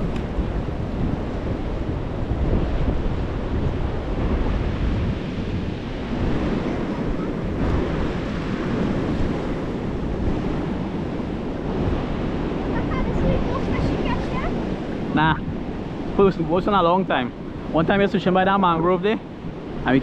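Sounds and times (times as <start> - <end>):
sea surf washing onto beach: 0.0 - 20.0
wind buffeting microphone: 0.0 - 20.0.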